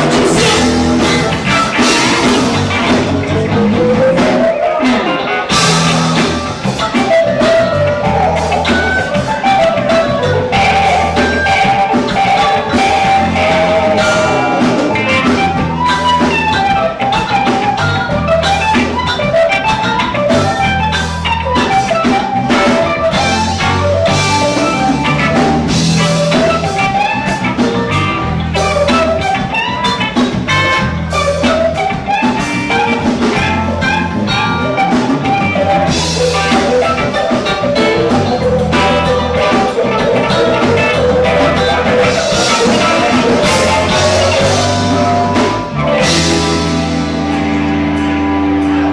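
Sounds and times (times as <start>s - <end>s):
bass guitar: 0.0s - 48.9s
drum kit beat: 0.0s - 48.9s
electric guitars: 0.0s - 48.9s
melodic guitar lead line: 0.0s - 48.9s.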